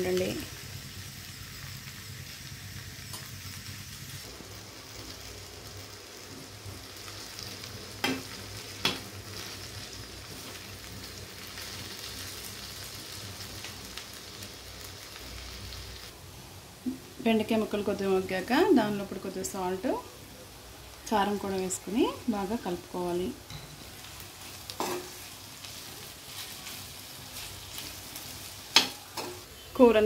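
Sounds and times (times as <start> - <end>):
okra sizzling in oil: 0.0 - 30.0.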